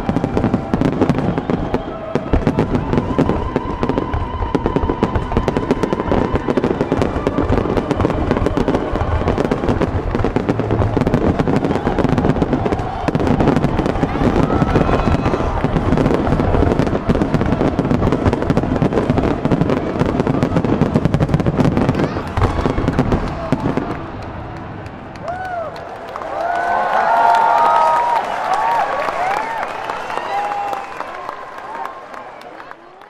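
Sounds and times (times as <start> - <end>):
fireworks bursting and crackling: 0.0 - 33.0.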